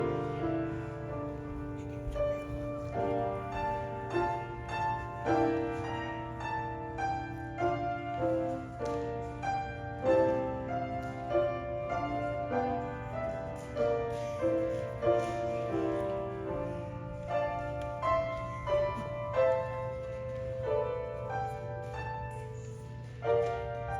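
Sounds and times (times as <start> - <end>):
slow piano piece: 0.0 - 23.9
steady low hum: 0.0 - 23.9.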